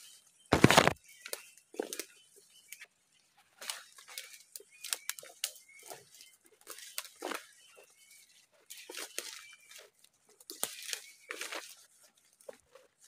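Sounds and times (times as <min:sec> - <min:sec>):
footsteps through undergrowth: 0:00.0 - 0:13.0
leaves and twigs crackling: 0:00.0 - 0:13.0.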